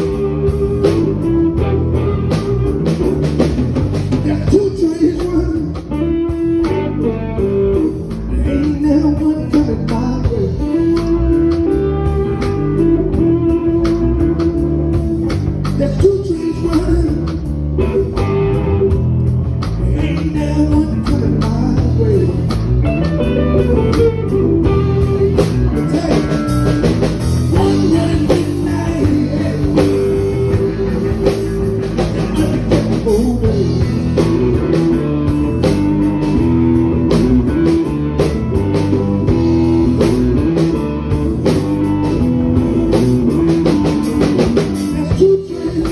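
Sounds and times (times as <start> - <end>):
bass guitar: 0.0 - 45.9
electric guitar lead lines: 0.0 - 45.9
steady drum beat: 0.0 - 45.9.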